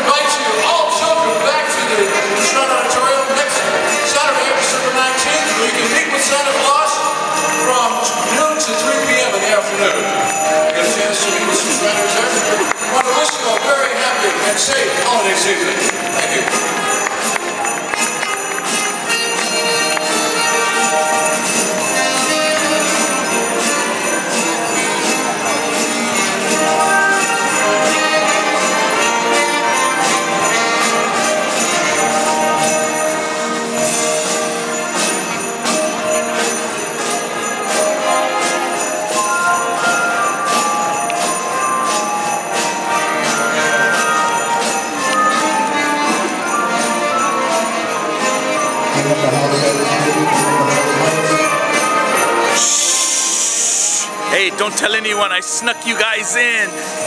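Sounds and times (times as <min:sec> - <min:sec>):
jingle bells shaken: 0:00.0 - 0:57.0
keyboard: 0:00.0 - 0:57.0.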